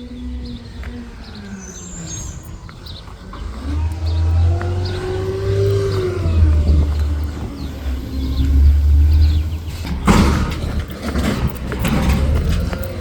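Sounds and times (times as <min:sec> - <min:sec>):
birds chirping faintly: 0:00.0 - 0:13.0
garbage truck engine running: 0:01.0 - 0:13.0.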